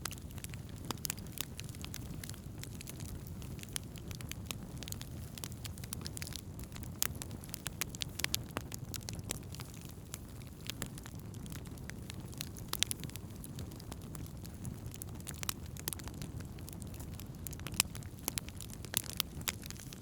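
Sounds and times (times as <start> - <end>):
fire crackles and pops: 0.0 - 20.0
fire rumble: 0.0 - 20.0.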